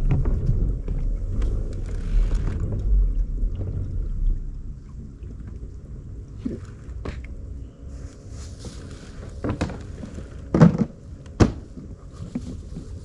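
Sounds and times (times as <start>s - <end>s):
wind and water rumbling: 0.0s - 13.0s.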